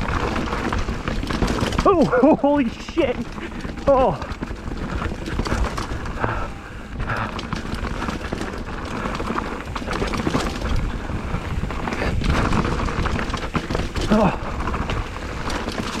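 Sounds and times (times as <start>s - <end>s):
bike rattling over rocks: 0.0s - 16.0s
wind rumbling on microphone: 0.0s - 16.0s.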